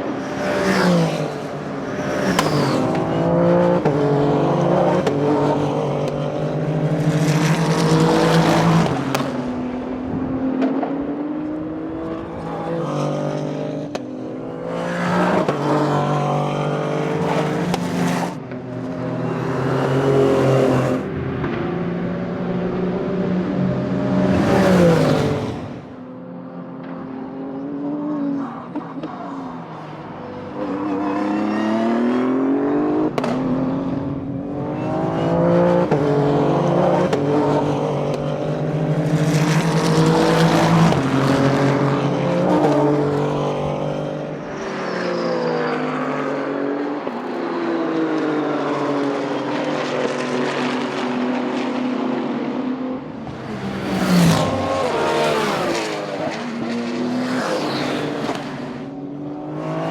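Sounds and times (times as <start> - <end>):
race cars passing by: 0.0 - 59.9.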